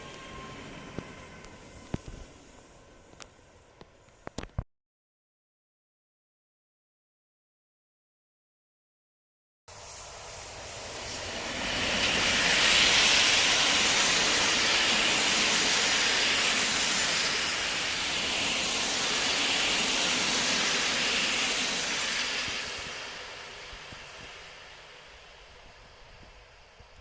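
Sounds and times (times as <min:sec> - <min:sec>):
train wheels rushing on rails: 0:00.0 - 0:04.4, 0:09.7 - 0:27.0.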